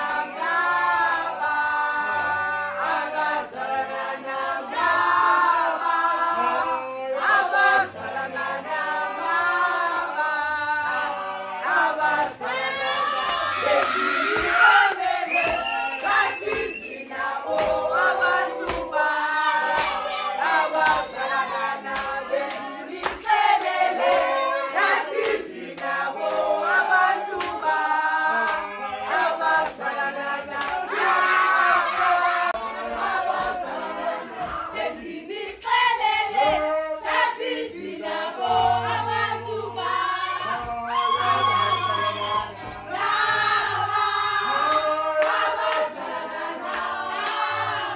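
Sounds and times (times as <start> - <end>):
group singing together: 0.0 - 47.9
rhythmic hand clapping: 0.0 - 47.9.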